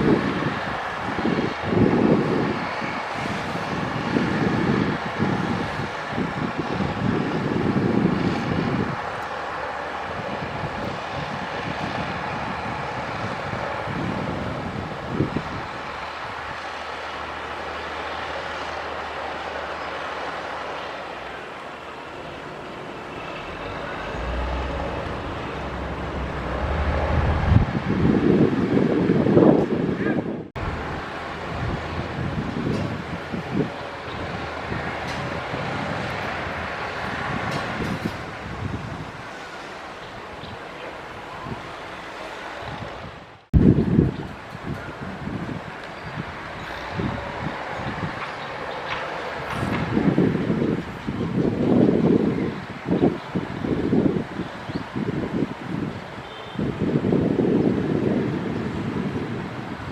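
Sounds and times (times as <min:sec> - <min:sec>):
diesel engine of heavy machinery: 0:00.0 - 0:59.9.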